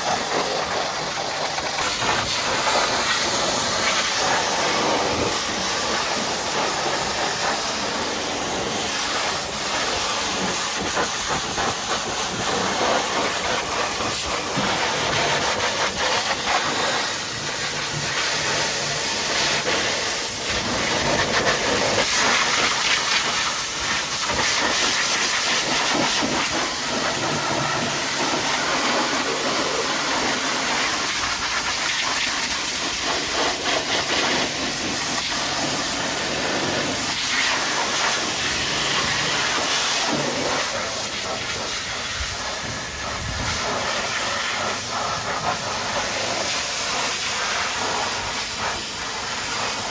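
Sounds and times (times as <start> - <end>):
pressure washer spray hissing: 0.0 - 49.9.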